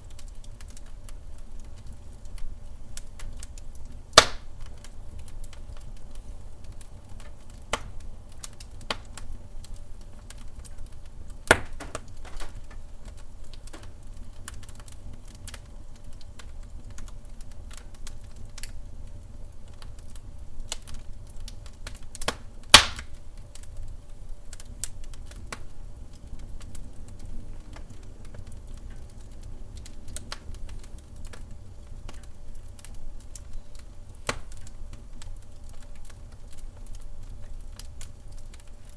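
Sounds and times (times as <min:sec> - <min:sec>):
fire crackling in fireplace: 0:00.0 - 0:38.9
loud fire pops: 0:00.0 - 0:38.9.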